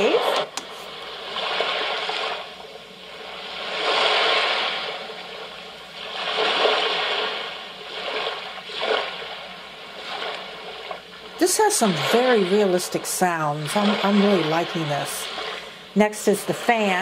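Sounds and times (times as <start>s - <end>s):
ocean surf hiss from speaker: 0.0s - 10.6s, 11.4s - 17.0s.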